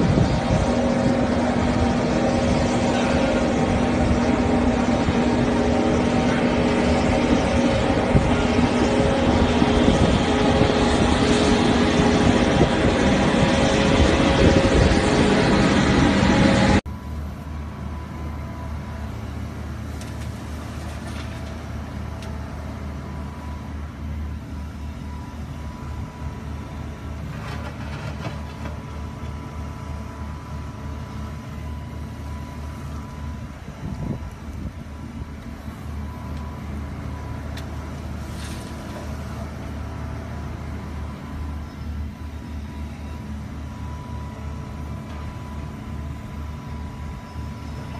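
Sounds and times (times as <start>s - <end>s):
excavator diesel engine running: 0.0s - 47.9s
heavy diesel machinery running: 0.0s - 47.9s.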